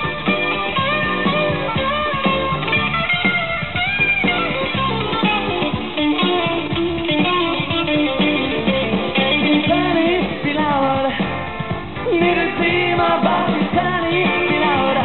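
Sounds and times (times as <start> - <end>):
drums and bass: 0.0 - 15.0
electric guitar: 0.0 - 15.0.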